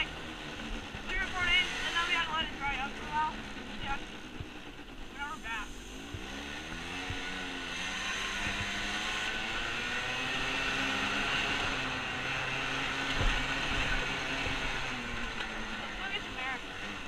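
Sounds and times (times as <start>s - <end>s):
atv engine under throttle: 0.0s - 17.0s.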